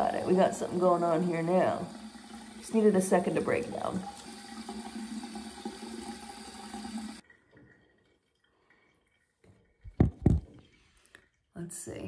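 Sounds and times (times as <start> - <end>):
faucet running water: 0.0 - 12.0.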